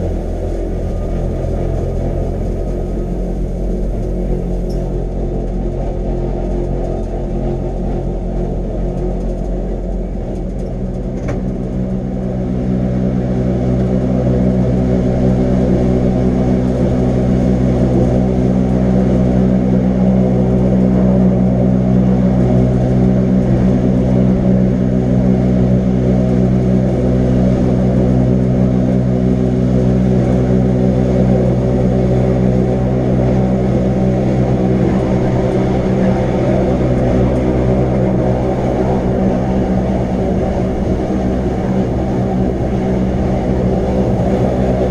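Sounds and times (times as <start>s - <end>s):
electric train motor hum: 0.0s - 44.9s.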